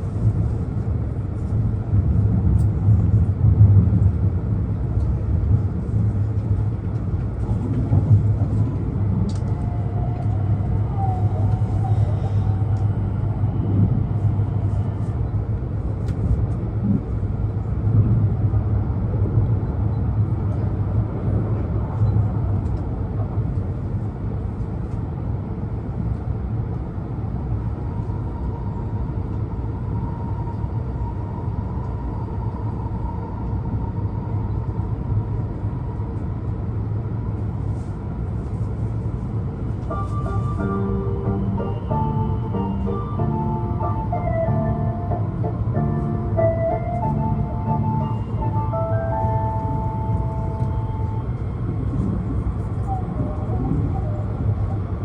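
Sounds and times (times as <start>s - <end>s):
train rumbling in motion: 0.0s - 55.0s.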